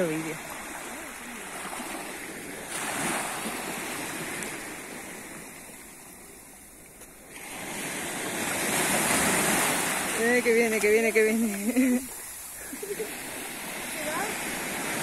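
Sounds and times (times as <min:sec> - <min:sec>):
small waves washing on sand: 0:00.0 - 0:15.0.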